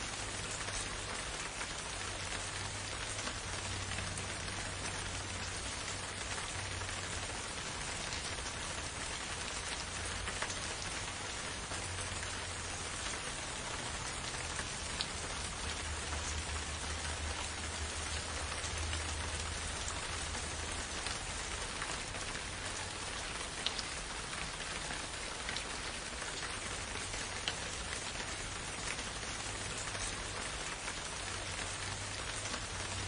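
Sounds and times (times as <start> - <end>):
close raindrop ticks: 0.0 - 33.0
steady rain in a forest: 0.0 - 33.0.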